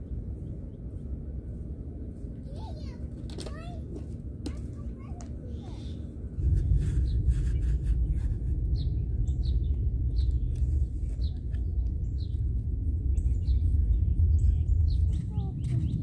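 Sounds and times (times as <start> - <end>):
small birds chirping: 0.0 - 3.8, 4.5 - 16.0
steady low rumble: 0.0 - 16.0.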